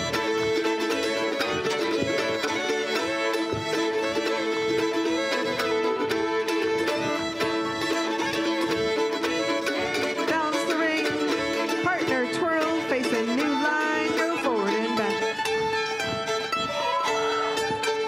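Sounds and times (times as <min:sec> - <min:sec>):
fiddles playing: 0:00.0 - 0:18.0
guitar accompaniment: 0:00.0 - 0:18.0.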